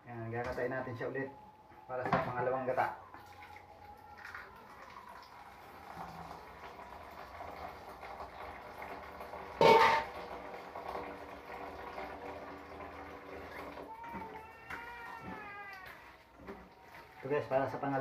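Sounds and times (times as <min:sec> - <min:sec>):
water splashing into steel sink: 0:03.1 - 0:18.0.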